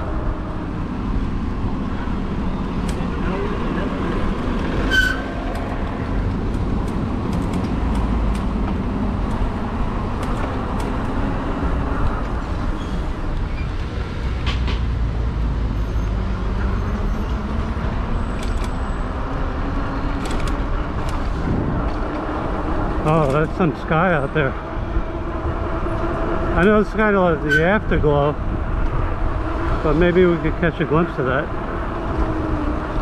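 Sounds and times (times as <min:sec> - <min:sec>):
e-bike riding rumble: 0:00.0 - 0:33.0
street traffic: 0:00.0 - 0:33.0.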